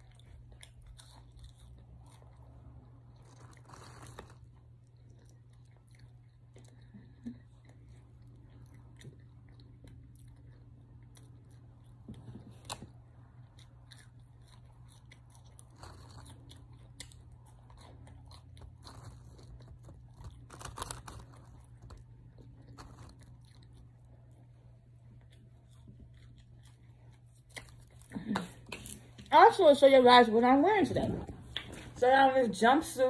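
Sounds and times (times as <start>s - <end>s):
crunching of fries: 0.0s - 29.3s.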